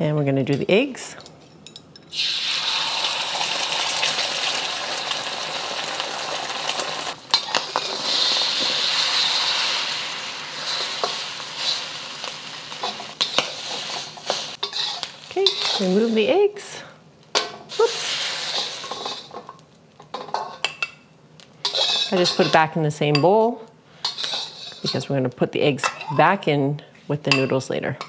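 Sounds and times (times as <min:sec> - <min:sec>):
eggs sizzling in hot oil: 0:02.1 - 0:23.1, 0:23.9 - 0:26.5.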